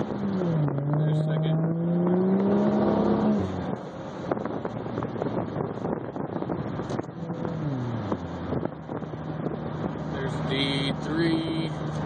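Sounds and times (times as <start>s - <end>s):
car engine accelerating: 0.0s - 12.0s
road and wind noise: 0.0s - 12.0s.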